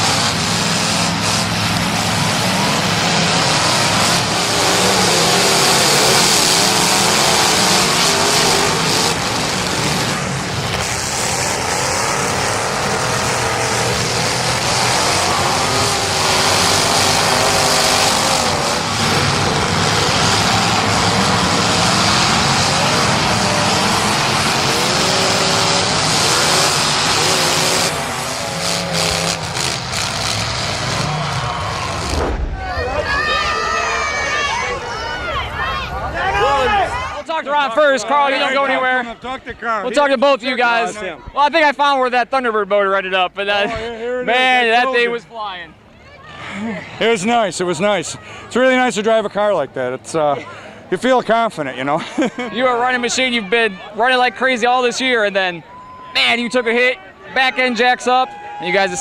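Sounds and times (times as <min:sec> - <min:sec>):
car engines revving: 0:00.0 - 0:39.0, 0:41.8 - 0:59.0.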